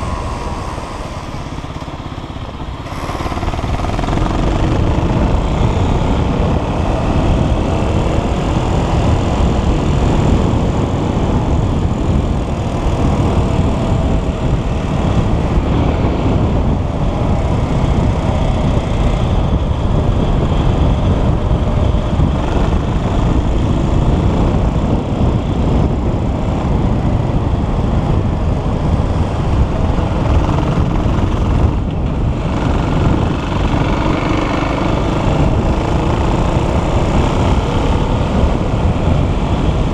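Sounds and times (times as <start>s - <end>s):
motocross bike engine revving: 0.0s - 24.4s, 30.2s - 39.2s.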